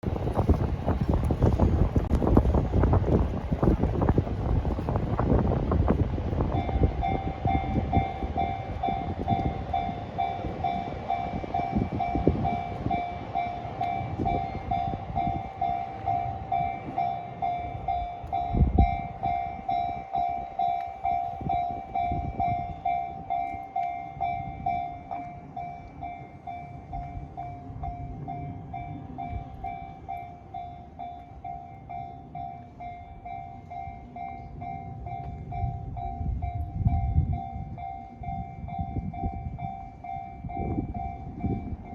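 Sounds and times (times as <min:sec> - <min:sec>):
train rumbling over crossing: 0:00.0 - 0:41.9
level crossing warning bell: 0:00.4 - 0:41.9.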